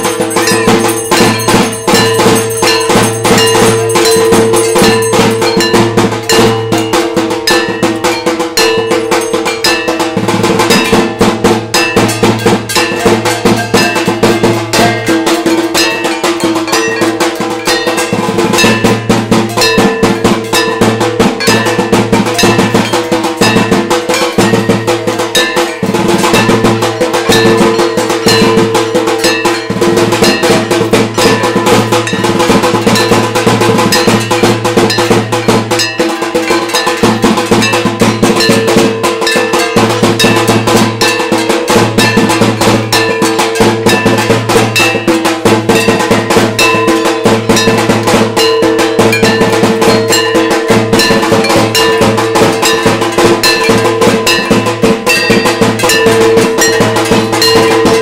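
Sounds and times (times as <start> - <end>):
drums: 0.0 - 58.0
metal percussion struck rapidly: 0.0 - 58.0.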